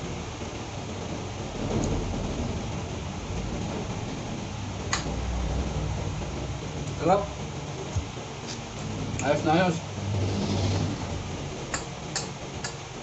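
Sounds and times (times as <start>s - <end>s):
steady rushing noise: 0.0s - 13.0s
low rumble: 0.8s - 13.0s.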